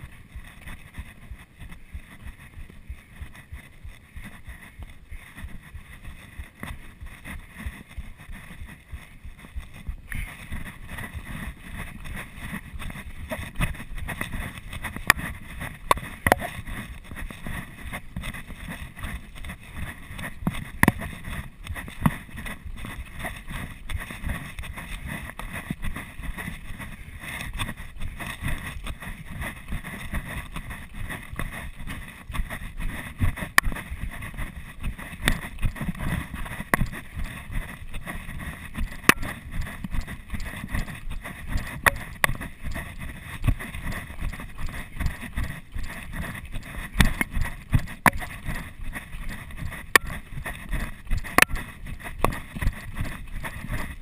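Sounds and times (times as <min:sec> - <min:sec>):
footsteps crunching on gravel: 0:00.0 - 0:54.0.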